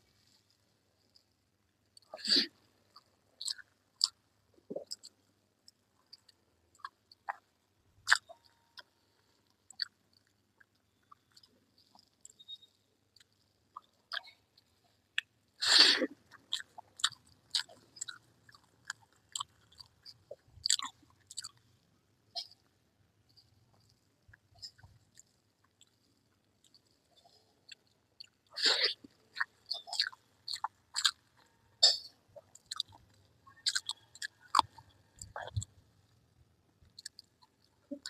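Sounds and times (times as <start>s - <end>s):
close chewing with mouth clicks: 0.0s - 38.0s.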